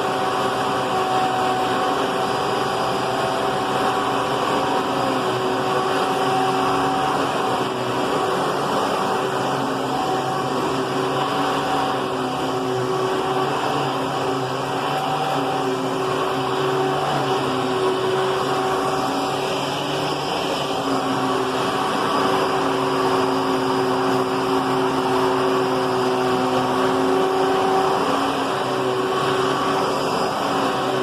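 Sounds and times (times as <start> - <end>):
upright vacuum cleaner running: 0.0 - 31.0.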